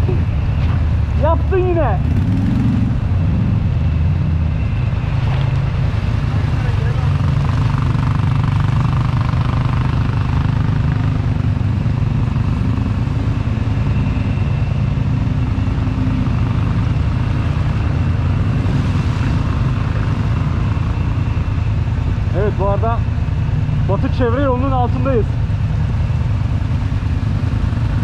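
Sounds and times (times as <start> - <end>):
off-road vehicle engine running: 0.0 - 28.0.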